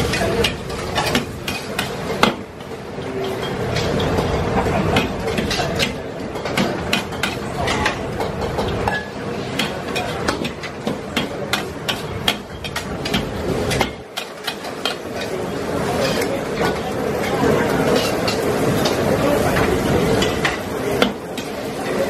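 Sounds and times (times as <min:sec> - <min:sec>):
food sizzling: 0:00.0 - 0:22.0.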